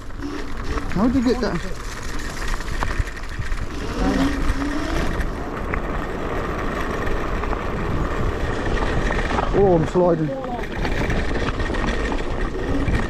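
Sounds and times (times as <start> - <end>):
electric scooter rolling over rough ground: 0.0 - 13.0
wind rumbling on microphone: 0.0 - 13.0.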